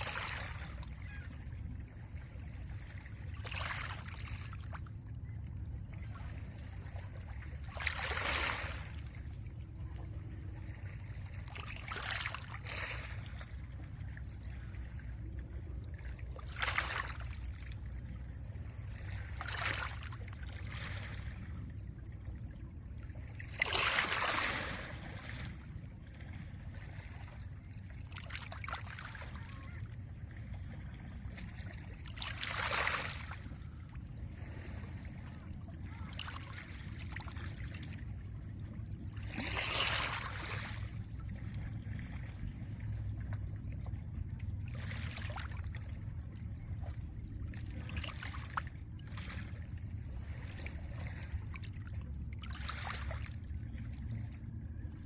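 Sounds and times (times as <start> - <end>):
low rumble of wind and water: 0.0 - 55.0.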